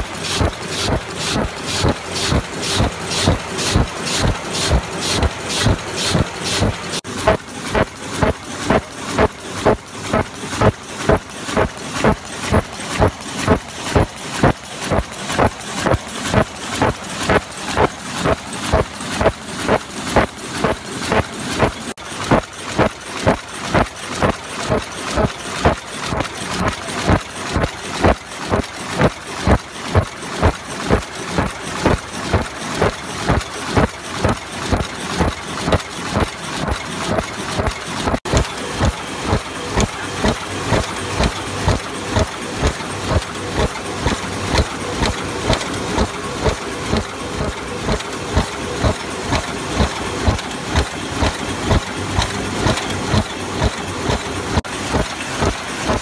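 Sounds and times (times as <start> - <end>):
machine clattering rhythmically: 0.0 - 56.0.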